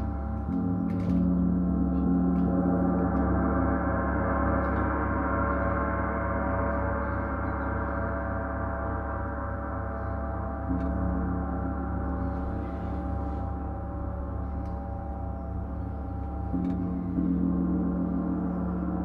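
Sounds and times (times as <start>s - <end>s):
gong played with soft mallets: 0.0s - 19.0s.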